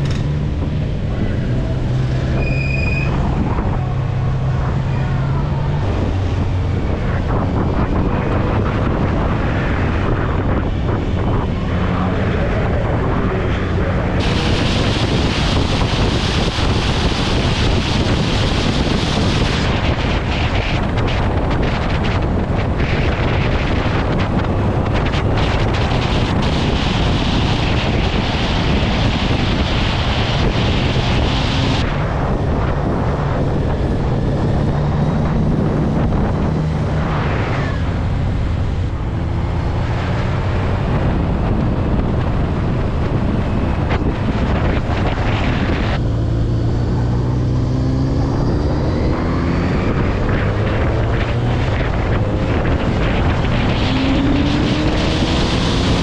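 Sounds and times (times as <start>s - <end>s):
motorcycle engine: 0.0s - 56.0s
wind noise on microphone: 0.0s - 56.0s.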